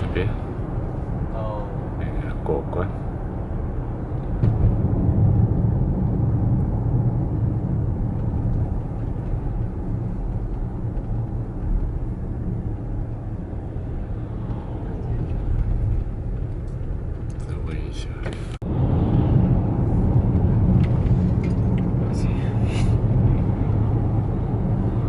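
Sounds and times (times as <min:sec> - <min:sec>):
car road rumble: 0:00.0 - 0:25.0.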